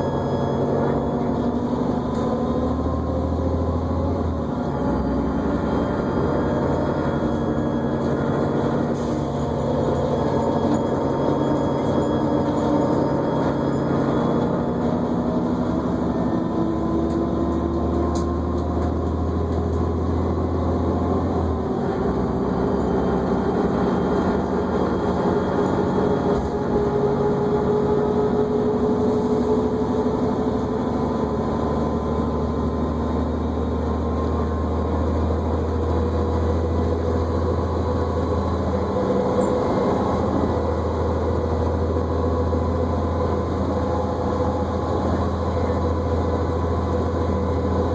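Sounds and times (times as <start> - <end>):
bus engine humming: 0.0 - 47.9
drivetrain whine: 0.0 - 47.9.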